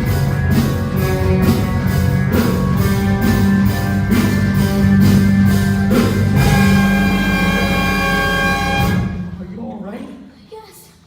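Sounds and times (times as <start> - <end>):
rock band music: 0.0 - 9.6
steady drum beat: 0.0 - 9.6.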